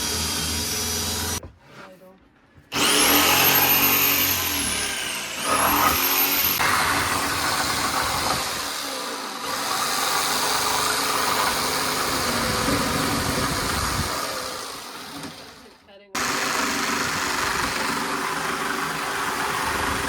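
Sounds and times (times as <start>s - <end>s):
power saw cutting wood: 0.0s - 1.4s, 2.7s - 20.0s.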